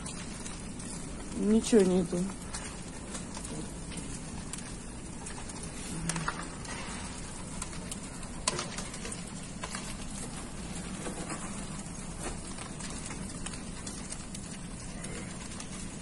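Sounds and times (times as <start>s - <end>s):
fire crackles and pops: 0.0s - 16.0s
fire rushing noise: 0.0s - 16.0s.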